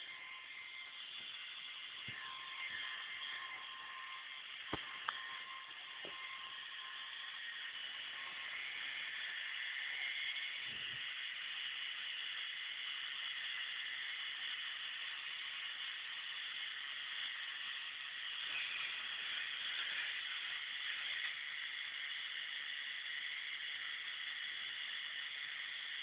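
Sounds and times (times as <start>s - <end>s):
lift chain motor whirring: 0.0s - 26.0s.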